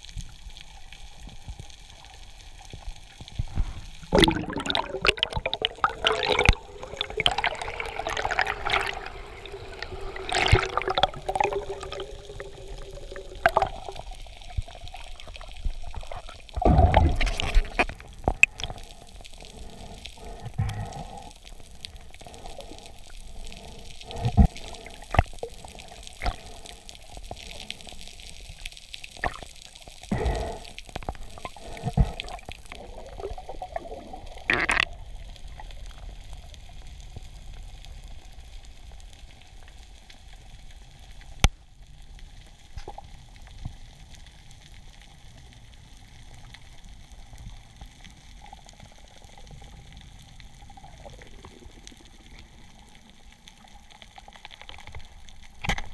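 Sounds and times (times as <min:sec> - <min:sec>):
muffled underwater water wash: 0:00.0 - 0:55.9.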